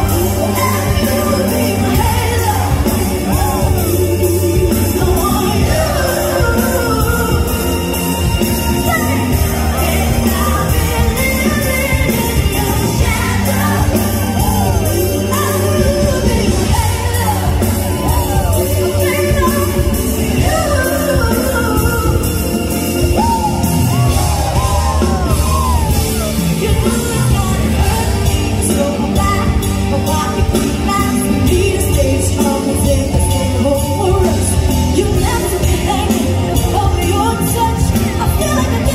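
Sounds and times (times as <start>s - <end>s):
full band playing: 0.0s - 38.9s
woman singing into microphone: 0.0s - 38.9s.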